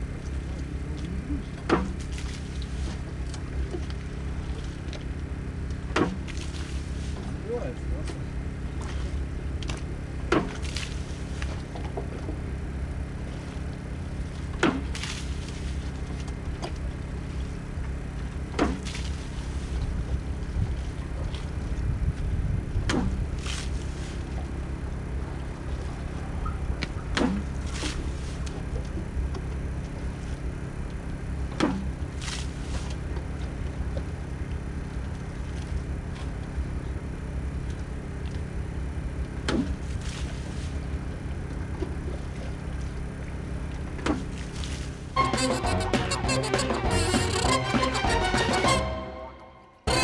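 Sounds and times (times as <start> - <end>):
water pump engine humming: 0.0 - 50.0.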